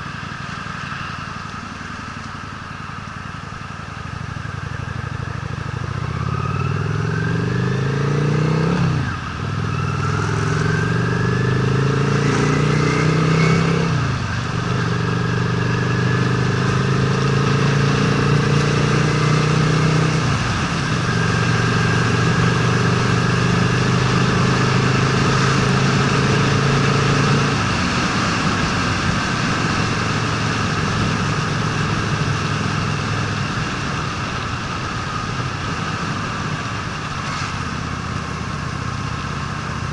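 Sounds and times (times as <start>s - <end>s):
wind and road noise: 0.0s - 39.9s
motorcycle engine accelerating: 3.4s - 39.9s.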